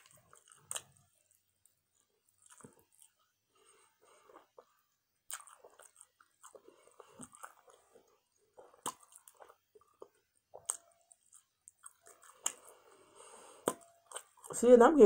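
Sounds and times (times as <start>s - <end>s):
chewing with wet smacks: 0.0s - 3.4s, 4.0s - 14.6s.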